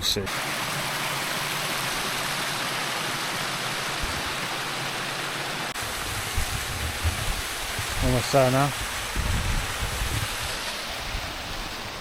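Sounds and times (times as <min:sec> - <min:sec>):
stream water flowing: 0:00.2 - 0:12.0.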